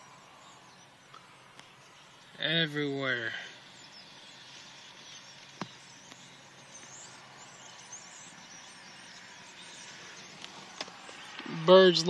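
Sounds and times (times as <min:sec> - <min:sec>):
distant flock of birds chattering: 0:00.0 - 0:12.0
outdoor background noise: 0:00.0 - 0:12.0.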